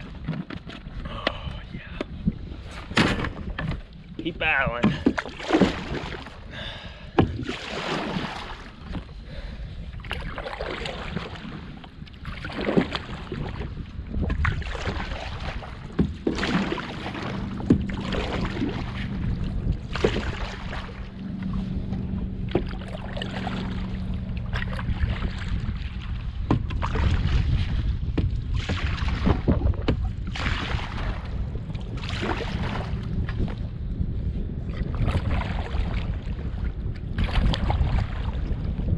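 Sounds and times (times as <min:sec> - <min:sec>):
paddle splashing water: 0:00.0 - 0:33.7, 0:34.6 - 0:38.9
wind buffeting microphone: 0:00.0 - 0:38.9.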